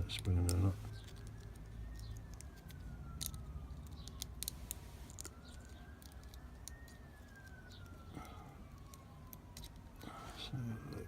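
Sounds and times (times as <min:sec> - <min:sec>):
lock pick clicking and scraping: 0:00.2 - 0:10.0.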